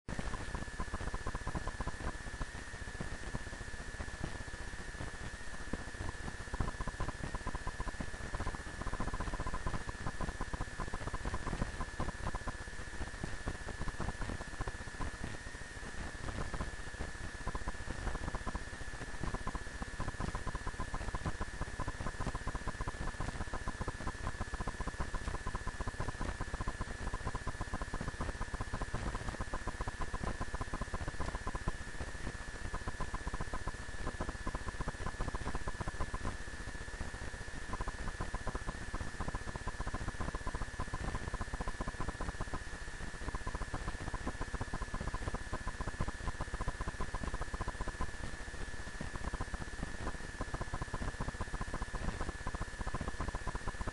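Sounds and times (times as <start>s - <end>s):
continuous crackle: 0.1s - 53.9s
faint high whine: 0.1s - 53.9s
static hiss: 0.1s - 53.9s.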